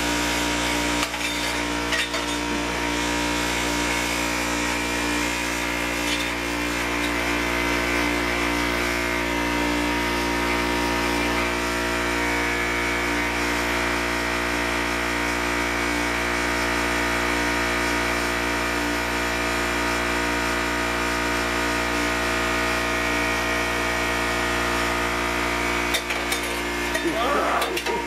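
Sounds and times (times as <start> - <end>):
small motor humming: 0.0 - 18.6, 23.6 - 28.0.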